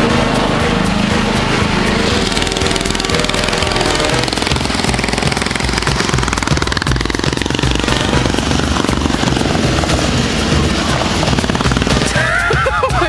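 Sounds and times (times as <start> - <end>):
small kart engine chugging: 0.0 - 13.0.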